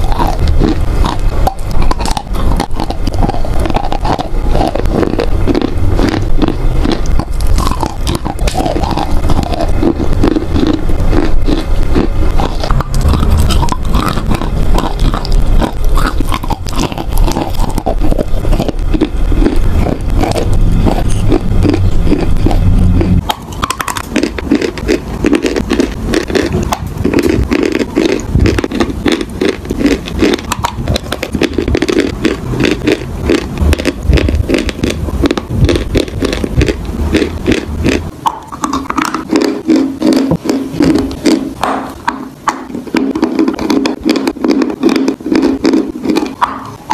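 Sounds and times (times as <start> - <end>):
chewing chalk crunching: 0.0 - 46.9.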